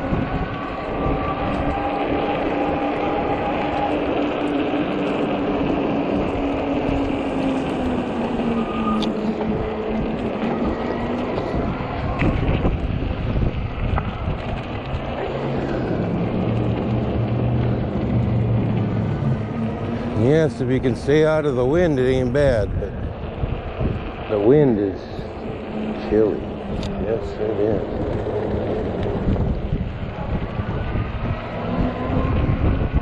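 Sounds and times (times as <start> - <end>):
low hum: 0.0 - 33.0
wind on microphone: 0.0 - 33.0.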